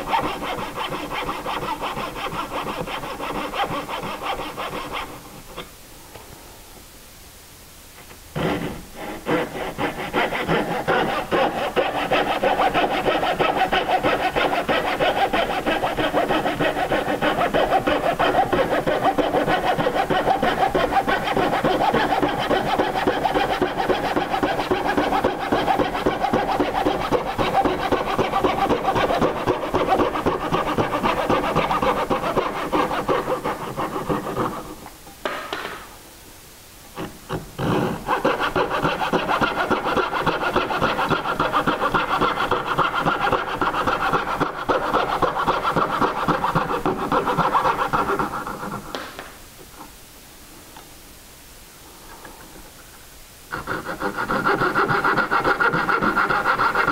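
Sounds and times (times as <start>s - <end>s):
hand saw cutting wood: 0.0s - 5.7s, 8.4s - 34.9s, 37.0s - 49.2s, 53.5s - 56.9s.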